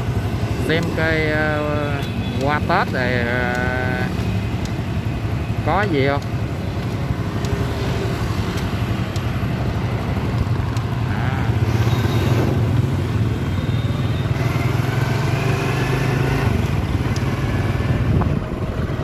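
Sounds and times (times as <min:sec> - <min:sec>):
motorbike engine running: 0:00.0 - 0:19.0
road noise: 0:00.0 - 0:19.0
street traffic: 0:00.0 - 0:19.0.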